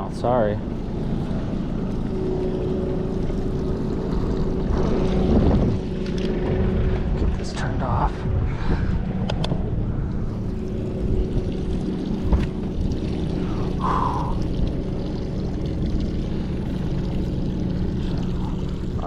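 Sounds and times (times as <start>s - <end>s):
boat motor rumbling: 0.0s - 19.0s.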